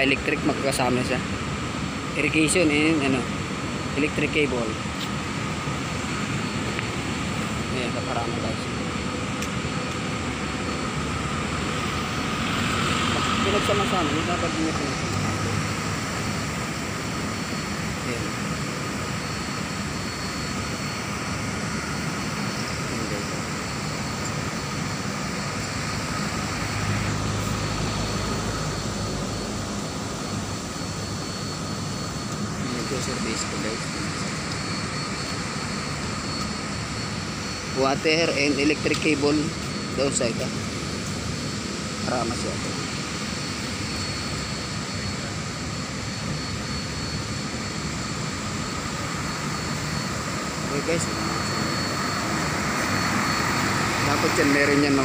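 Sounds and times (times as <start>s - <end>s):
machinery rumble: 0.0s - 55.0s
street traffic noise: 0.0s - 55.0s
vehicle engine humming low: 0.0s - 55.0s.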